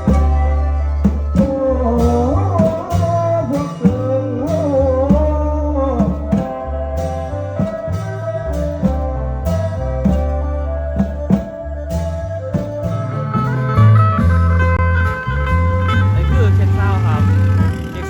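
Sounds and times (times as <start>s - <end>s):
amplified folk drum band music: 0.0s - 18.0s
sliding melody line: 0.0s - 18.0s.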